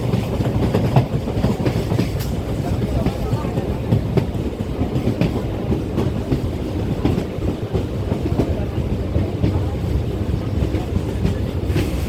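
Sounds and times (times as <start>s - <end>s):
rail joint clacks: 0.0s - 12.0s
train wheels rumbling: 0.0s - 12.0s.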